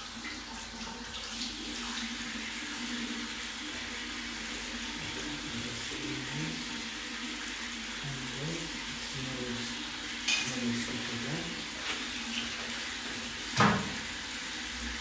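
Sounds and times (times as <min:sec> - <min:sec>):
tap water running into basin: 0:00.0 - 0:15.0.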